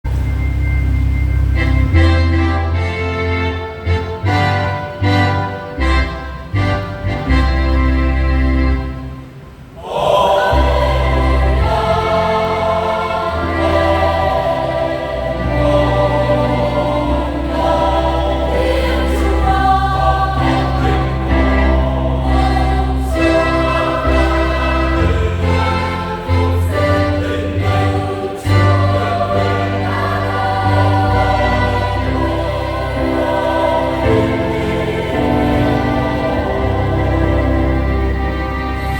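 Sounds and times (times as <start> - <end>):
instrumental accompaniment: 0.1 - 38.9
choir singing a hymn: 1.6 - 38.9.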